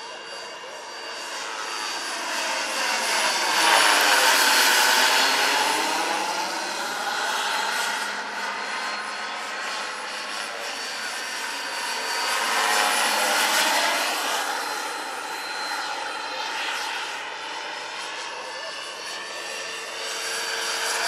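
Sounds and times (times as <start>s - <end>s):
model helicopter turbine whine: 0.0s - 21.0s.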